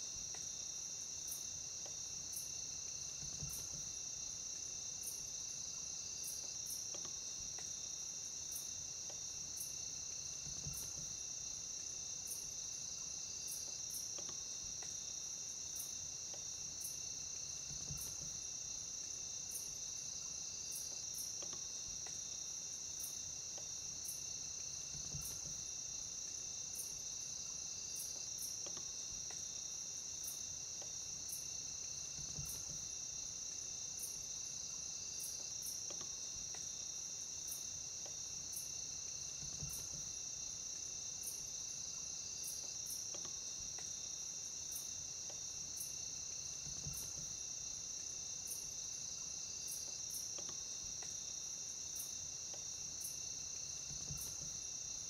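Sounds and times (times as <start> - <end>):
crickets trilling: 0.0 - 55.0
sharp insect ticking: 0.2 - 55.0.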